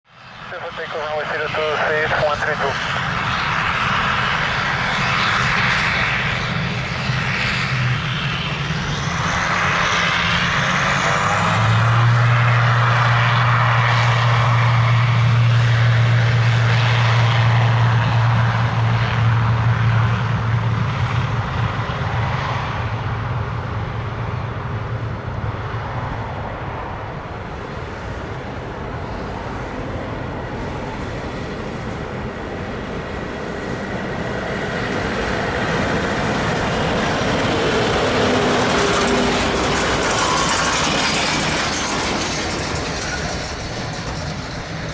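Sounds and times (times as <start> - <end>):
turboprop engines droning: 0.1 - 44.9.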